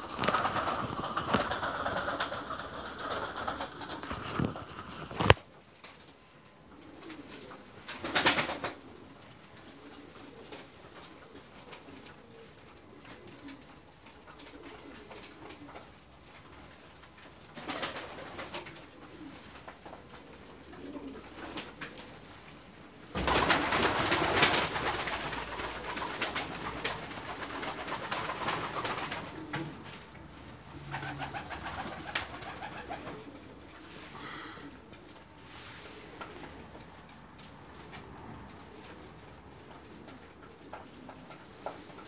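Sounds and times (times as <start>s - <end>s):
pigeons cooing: 0.0s - 5.4s, 6.2s - 42.0s
wings flapping: 0.0s - 6.1s, 6.8s - 42.0s.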